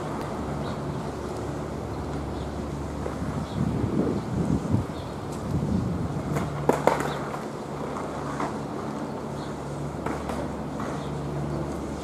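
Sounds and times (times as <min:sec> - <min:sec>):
engine-like hum: 0:00.0 - 0:12.0.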